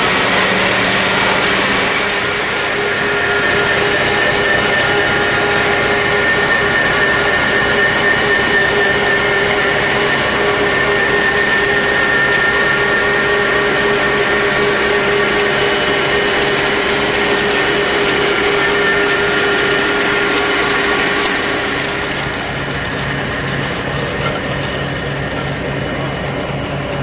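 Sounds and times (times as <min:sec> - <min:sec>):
harvester machine whining: 0:00.0 - 0:27.0.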